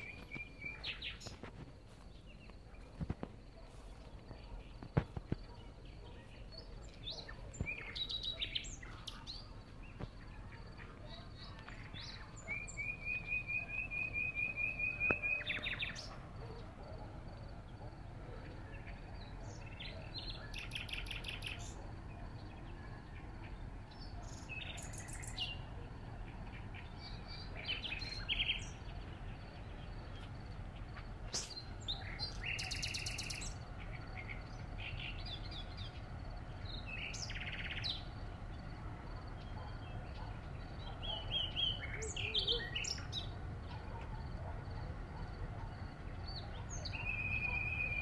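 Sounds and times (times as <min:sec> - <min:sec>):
nightingale singing: 0:00.0 - 0:48.0.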